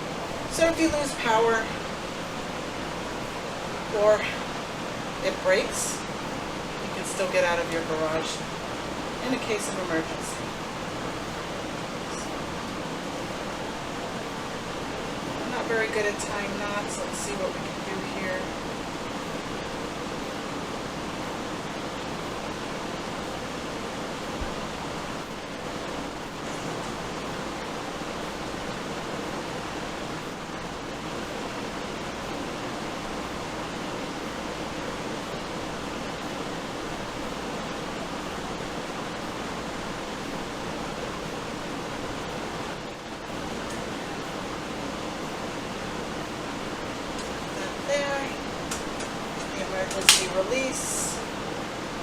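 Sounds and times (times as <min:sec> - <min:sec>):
steady rushing hiss: 0:00.0 - 0:52.0.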